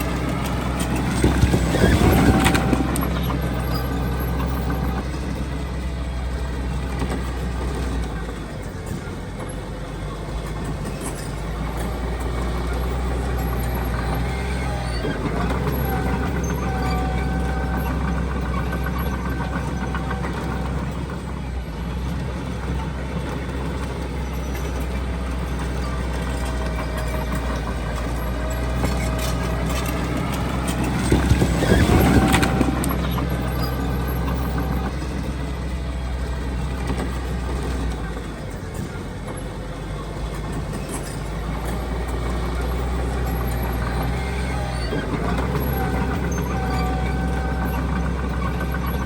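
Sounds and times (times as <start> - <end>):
diesel machinery engine rumble: 0.0 - 49.0.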